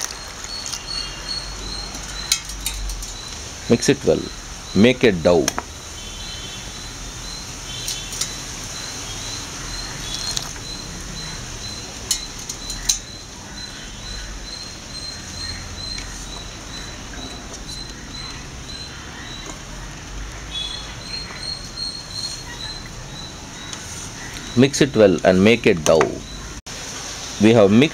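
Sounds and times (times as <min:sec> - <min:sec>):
high chirping: 0:00.0 - 0:26.6.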